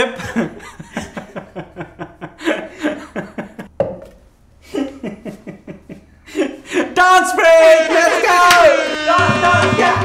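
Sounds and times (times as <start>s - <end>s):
men laughing: 0.0s - 3.7s, 4.6s - 9.2s.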